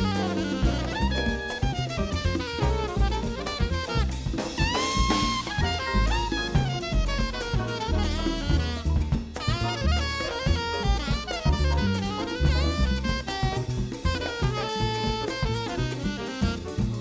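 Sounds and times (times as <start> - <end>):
drum kit and band: 0.0 - 17.0
saxophone melody: 0.0 - 17.0.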